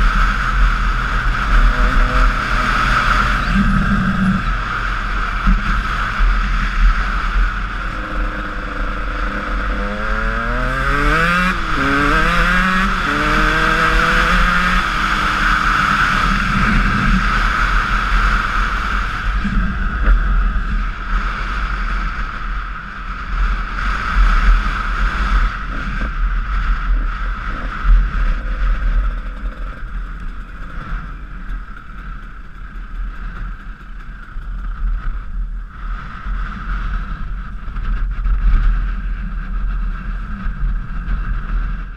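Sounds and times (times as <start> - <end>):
dirt bike engine running: 0.0 - 41.9
wind noise on microphone: 0.0 - 41.9.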